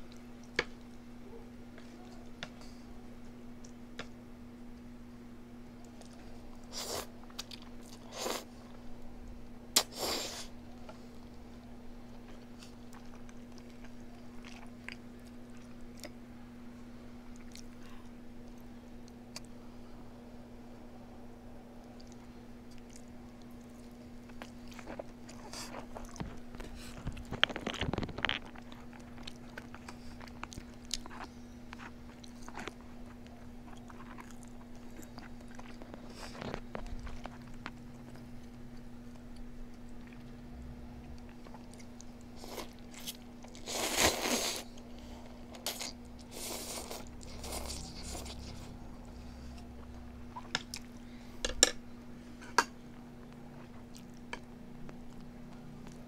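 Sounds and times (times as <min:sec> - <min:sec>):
faint steady hum: 0:00.0 - 0:56.0
chewing and crunching food: 0:05.7 - 0:16.2, 0:17.2 - 0:19.6, 0:21.8 - 0:51.8, 0:52.4 - 0:56.0.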